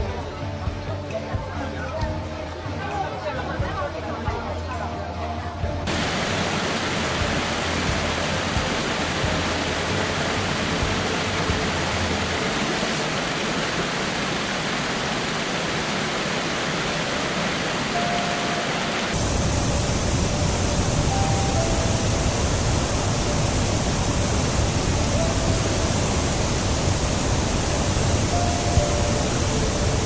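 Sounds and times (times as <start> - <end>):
floodwater rushing: 5.9 - 30.0.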